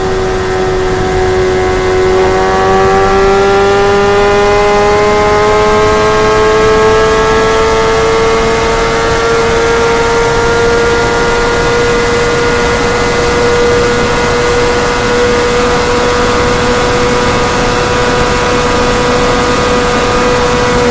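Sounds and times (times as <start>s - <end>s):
motorcycle engine revving high: 0.0s - 20.9s
wind and road noise: 0.0s - 20.9s.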